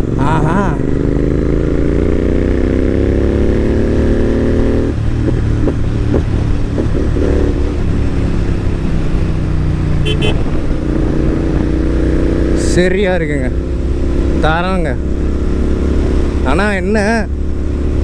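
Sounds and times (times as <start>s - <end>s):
motorcycle engine pulling hard: 0.0s - 18.0s.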